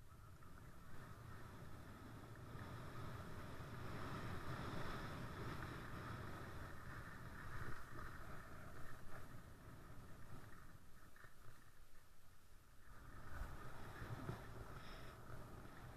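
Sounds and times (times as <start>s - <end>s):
wind rushing over camera: 0.0s - 15.9s
skis sliding on packed snow: 0.4s - 12.0s, 12.8s - 15.9s.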